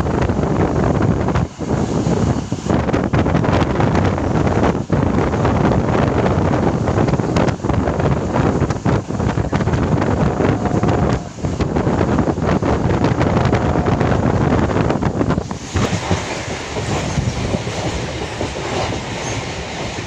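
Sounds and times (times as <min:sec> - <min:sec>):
moving train running noise: 0:00.0 - 0:20.0
wind buffeting microphone: 0:00.0 - 0:20.0.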